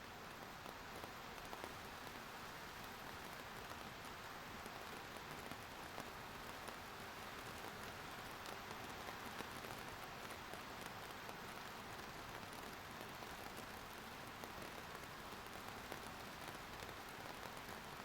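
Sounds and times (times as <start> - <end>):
raindrops ticking on surfaces: 0.0 - 18.0
steady rain hiss: 0.0 - 18.0.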